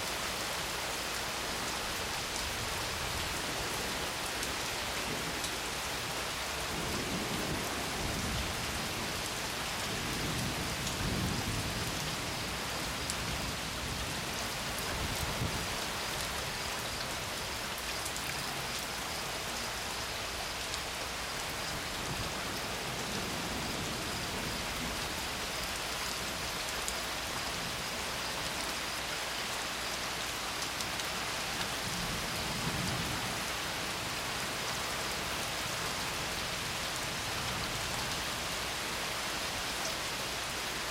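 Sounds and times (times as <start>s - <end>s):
steady rain pouring: 0.0s - 40.9s.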